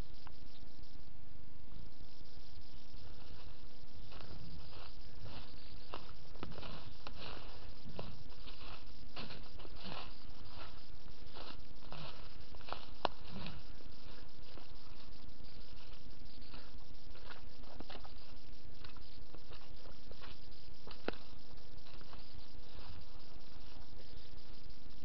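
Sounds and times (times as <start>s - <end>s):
faint constant hum: 0.0s - 25.0s
steady hiss: 0.0s - 25.0s
footsteps through dry twigs: 2.5s - 25.0s.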